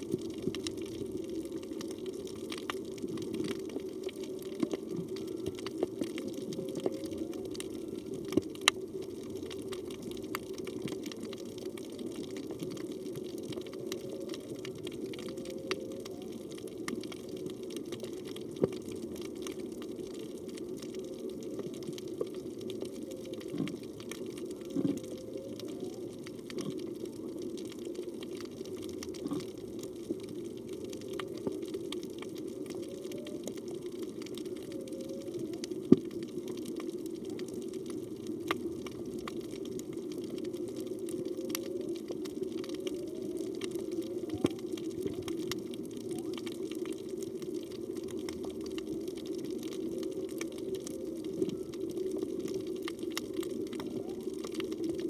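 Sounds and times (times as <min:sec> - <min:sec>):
underwater water rush: 0:00.0 - 0:55.0.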